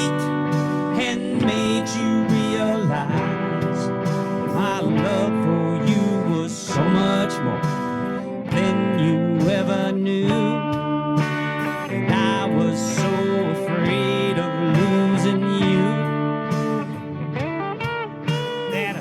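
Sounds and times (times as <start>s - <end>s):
country guitar with bending notes: 0.0s - 19.0s.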